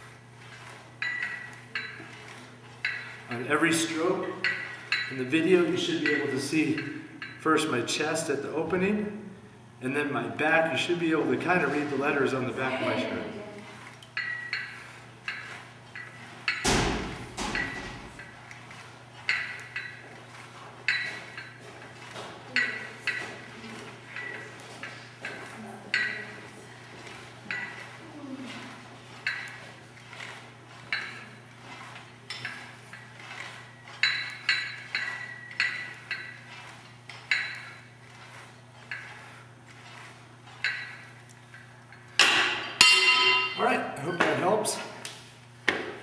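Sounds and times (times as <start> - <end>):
weight stack plates clinking: 0.4 - 7.4, 13.7 - 43.6.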